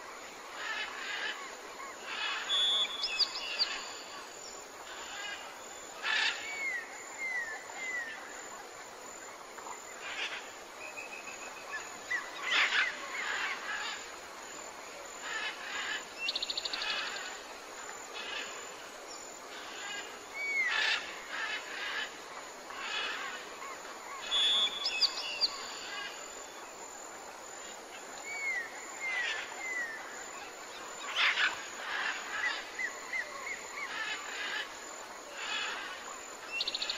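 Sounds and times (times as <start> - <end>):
outdoor hiss: 0.0 - 36.9.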